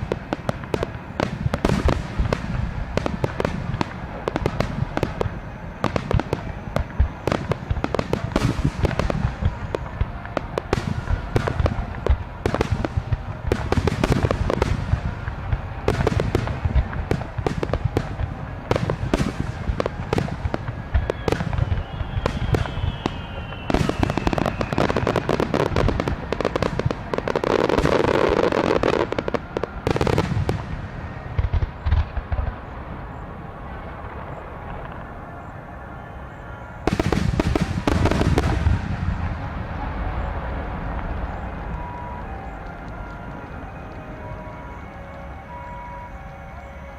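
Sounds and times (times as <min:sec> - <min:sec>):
firework crackle: 0:00.0 - 0:46.9.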